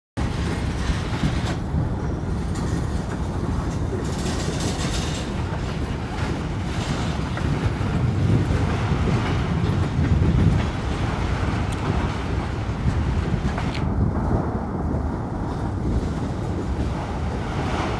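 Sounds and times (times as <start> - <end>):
freight train cars rolling past: 0.2 - 17.9.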